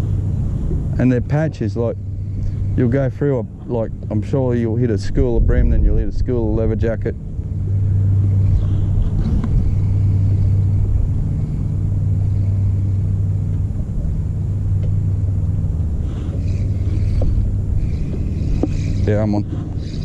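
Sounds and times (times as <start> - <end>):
motor rumbling and humming: 0.0 - 20.0.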